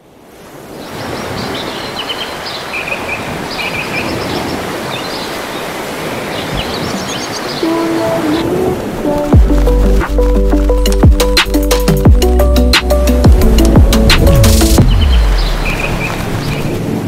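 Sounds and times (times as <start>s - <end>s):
surf washing on a beach: 0.0s - 17.0s
small birds chirping: 0.6s - 17.0s.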